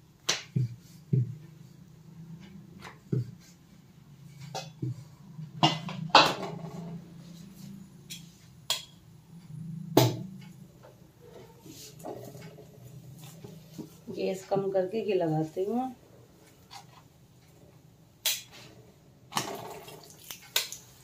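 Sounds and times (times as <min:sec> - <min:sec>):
steady low hum: 0:00.6 - 0:18.1.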